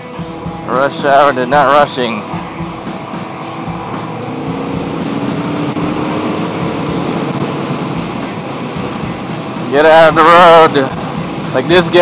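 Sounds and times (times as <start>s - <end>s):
background music: 0.0s - 12.0s
motorcycle engine running: 0.0s - 12.0s
wind rushing over microphone: 2.0s - 12.0s.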